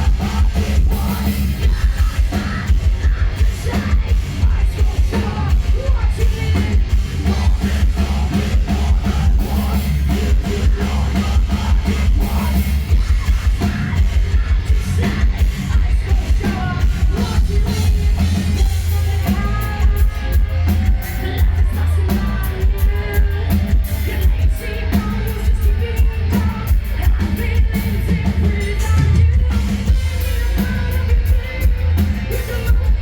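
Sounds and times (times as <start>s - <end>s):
distorted guitars: 0.0s - 33.0s
heavy metal band playing: 0.0s - 33.0s
person singing: 0.0s - 33.0s.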